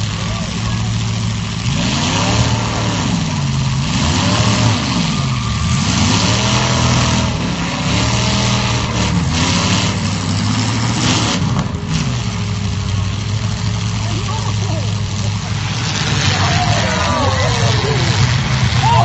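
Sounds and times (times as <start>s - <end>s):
car engines revving: 0.0s - 19.0s
constant rush of noise: 0.0s - 19.0s.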